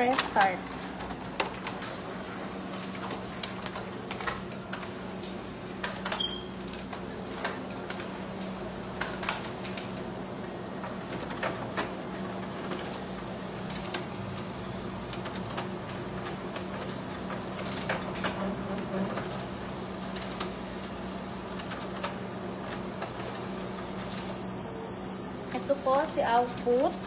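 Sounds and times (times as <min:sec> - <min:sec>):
paper feed clicks and clacks: 0:00.0 - 0:02.1, 0:02.7 - 0:24.3
copier motor hum: 0:00.0 - 0:27.0.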